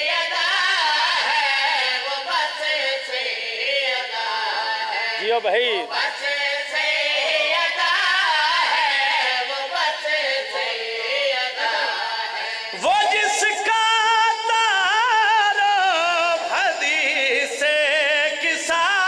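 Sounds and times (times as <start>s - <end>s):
man singing a devotional chant: 0.0s - 19.0s.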